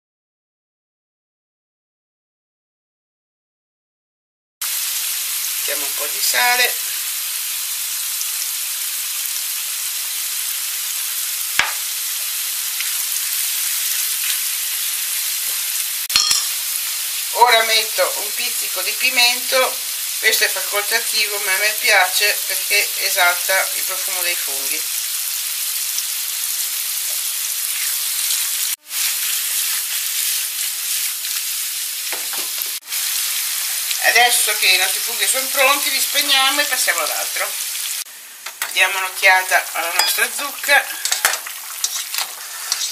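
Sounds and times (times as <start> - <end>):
mushrooms sizzling in frying pan: 4.6 - 42.9.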